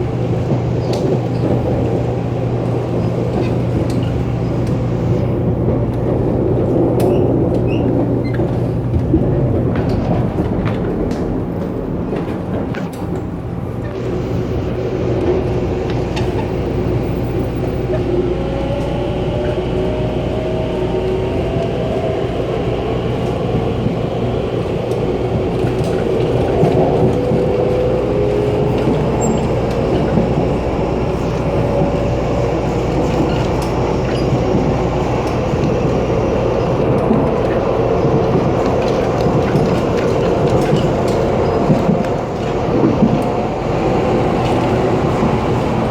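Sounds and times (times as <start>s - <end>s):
train wheels rumbling and rattling: 0.0s - 45.9s.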